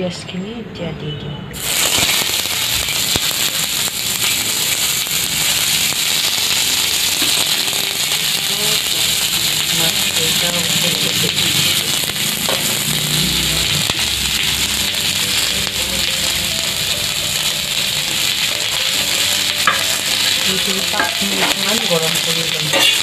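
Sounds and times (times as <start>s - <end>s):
food sizzling in hot oil: 1.6s - 23.0s.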